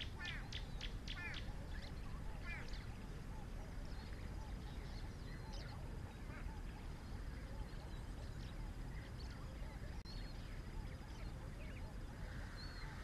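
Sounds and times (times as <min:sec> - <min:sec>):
birds chirping and whistling: 0:00.0 - 0:13.0
lower curved bird calls: 0:00.0 - 0:13.0
steady low rumble: 0:00.0 - 0:13.0.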